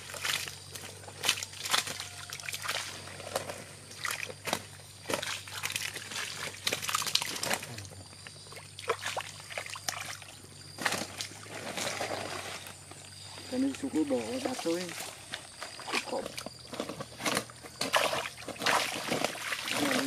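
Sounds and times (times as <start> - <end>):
muddy water sloshing and splashing: 0.0 - 20.0
water trickling from a net: 0.0 - 20.0.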